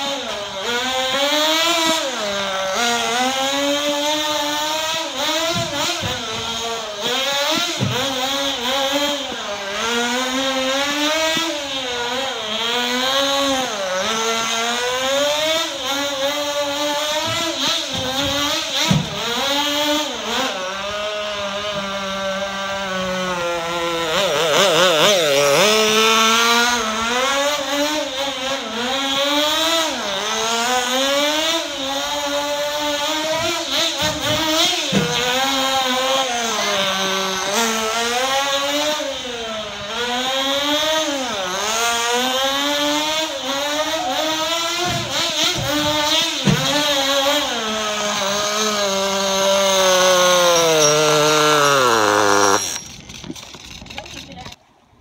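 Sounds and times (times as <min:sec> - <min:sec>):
small nitro engine revving: 0:00.0 - 0:54.6.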